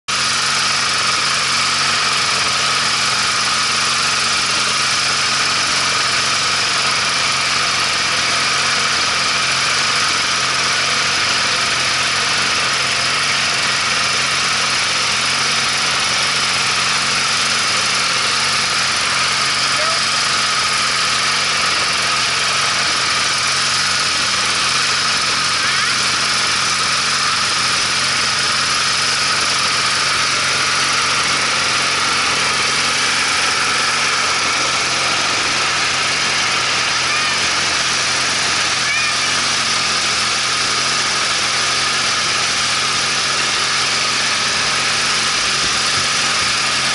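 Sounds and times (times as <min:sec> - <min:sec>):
riding lawn mower engine drone: 0:00.0 - 0:46.9.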